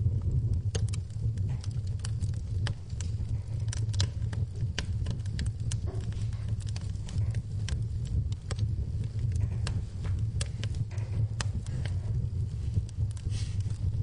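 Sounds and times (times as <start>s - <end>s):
low steady rumble: 0.0s - 14.0s
wood fire crackling: 0.0s - 14.0s.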